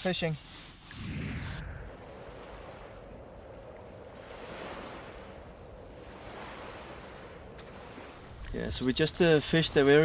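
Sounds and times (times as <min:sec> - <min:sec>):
gentle sea waves washing: 0:00.5 - 0:10.0.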